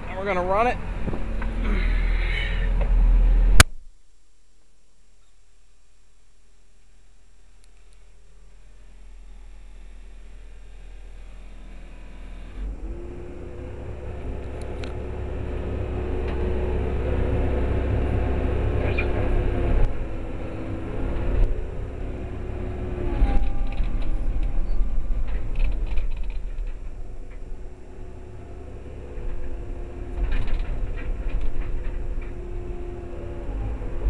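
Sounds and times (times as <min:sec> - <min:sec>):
excavator diesel engine rumble: 0:00.0 - 0:03.7, 0:07.4 - 0:34.0
hydraulic whine: 0:00.8 - 0:03.7, 0:08.3 - 0:34.0.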